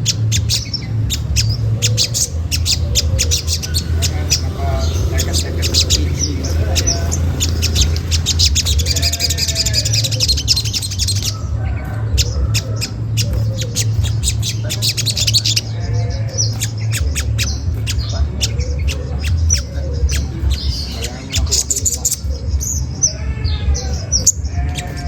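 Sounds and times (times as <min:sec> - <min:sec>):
bird sharp rapid calls: 0:00.0 - 0:25.0
steady low hum: 0:00.0 - 0:25.0.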